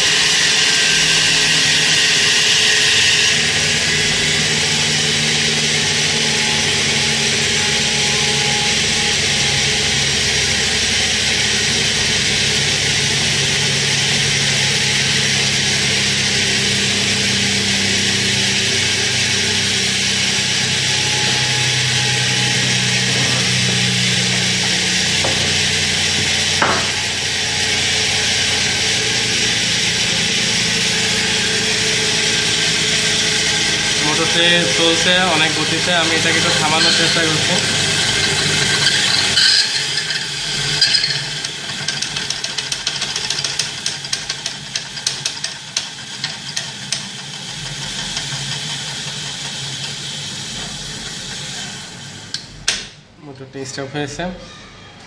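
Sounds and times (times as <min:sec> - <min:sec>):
electric motor whirring: 0:00.0 - 0:52.5.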